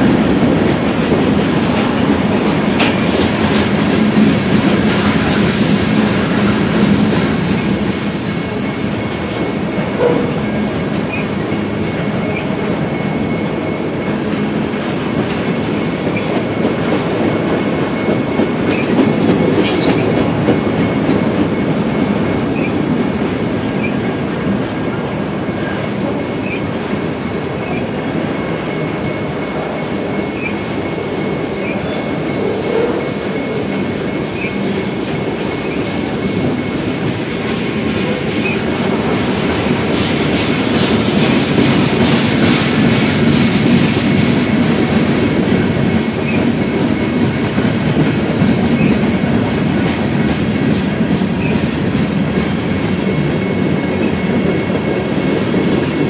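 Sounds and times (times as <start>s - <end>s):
clickety-clack over rail joints: 0.0s - 56.0s
steel wheels rumbling on rail: 0.0s - 56.0s.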